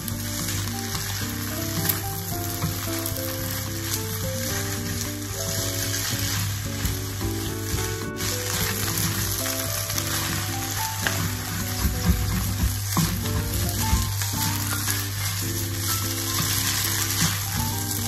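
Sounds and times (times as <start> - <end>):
food sizzling in frying pan: 0.0 - 18.0
wooden spatula scraping pan: 0.0 - 18.0.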